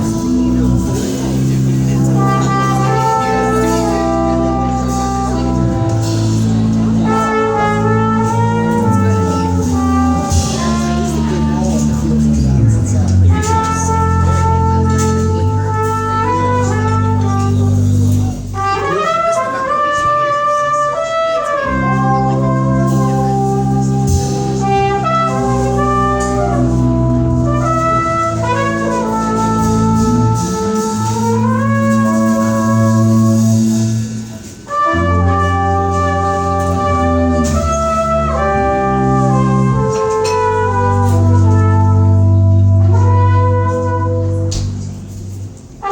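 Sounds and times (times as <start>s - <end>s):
bass line: 0.0s - 19.4s, 21.2s - 45.9s
brass instrument holding long notes: 0.0s - 45.9s.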